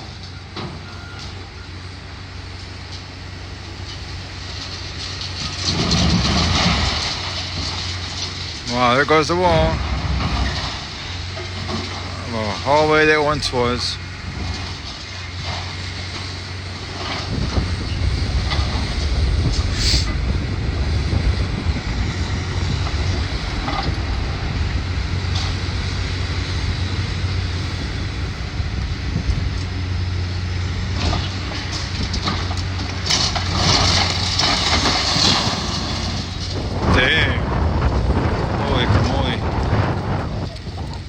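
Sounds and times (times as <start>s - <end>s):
heavy demolition machinery running: 0.0s - 41.0s
falling debris crashing and scraping: 3.7s - 28.1s, 29.3s - 41.0s.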